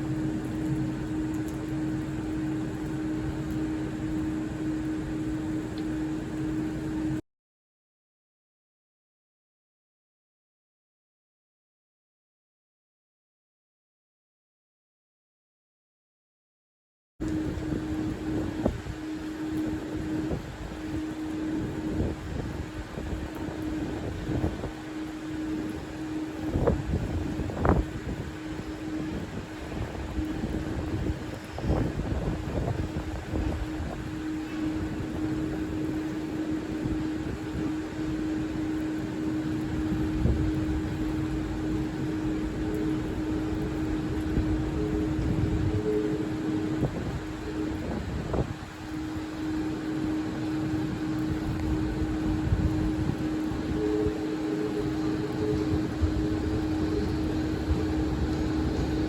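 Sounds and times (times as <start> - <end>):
train mechanical hum: 0.0 - 7.2, 17.2 - 59.0.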